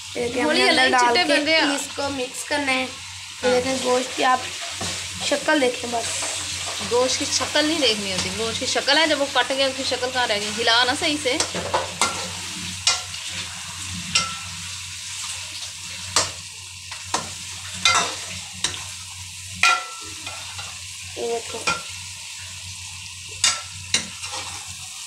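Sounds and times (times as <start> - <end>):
meat sizzling: 0.0 - 25.0.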